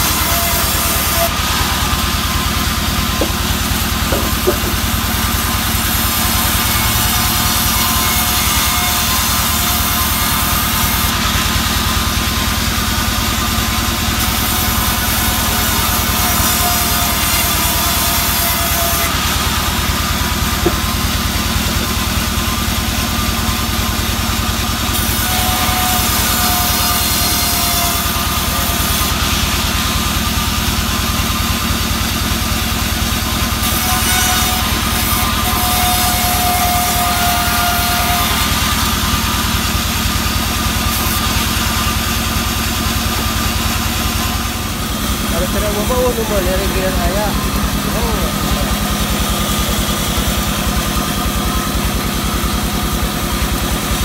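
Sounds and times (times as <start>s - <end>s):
band saw cutting boards: 0.0s - 54.0s
sawmill machine hum: 0.0s - 54.0s.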